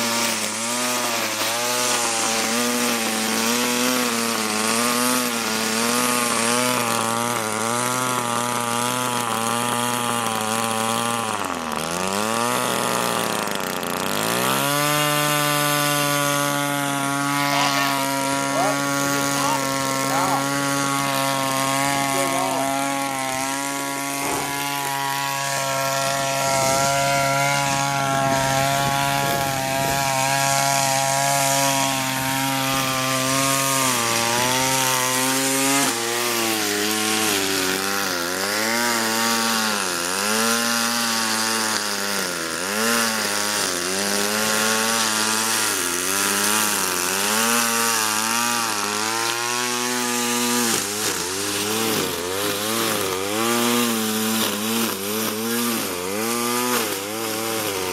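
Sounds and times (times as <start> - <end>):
string trimmer engine at full throttle: 0.0 - 57.9.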